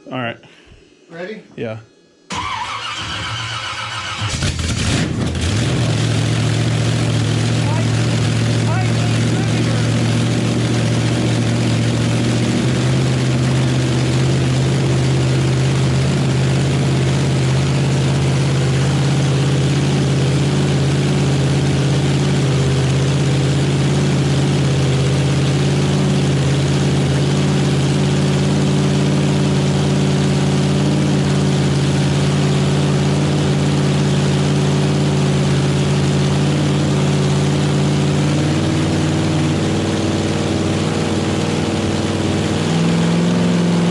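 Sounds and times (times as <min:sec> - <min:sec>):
car engine running: 0:02.3 - 0:43.9.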